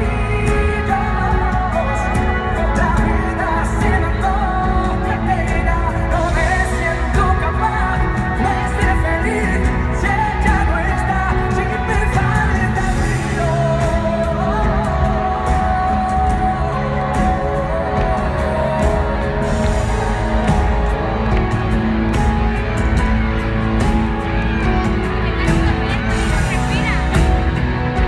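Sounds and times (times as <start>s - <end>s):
man singing: 0.0s - 24.8s
live pop band playing: 0.0s - 28.0s.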